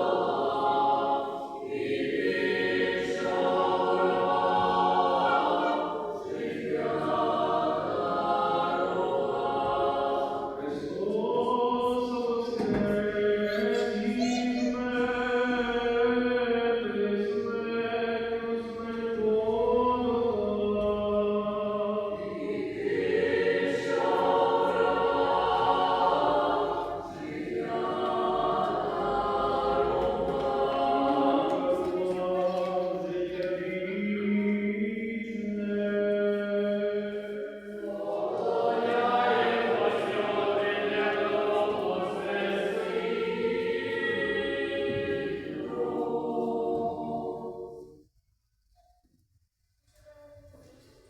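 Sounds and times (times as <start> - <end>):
church choir singing a cappella: 0.0 - 48.1.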